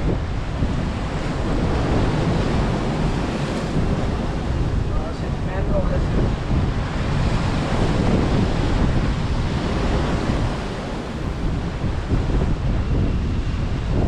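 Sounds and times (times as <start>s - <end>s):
sea surf washing in: 0.0s - 14.0s
wind buffeting microphone: 0.0s - 14.0s.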